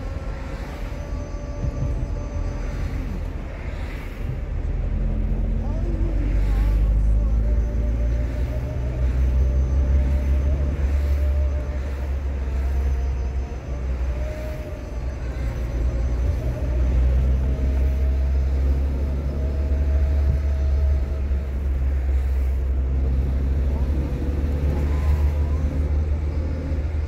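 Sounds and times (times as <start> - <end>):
car engine and tyres rumbling: 0.0 - 27.0
faint whine: 0.0 - 27.0.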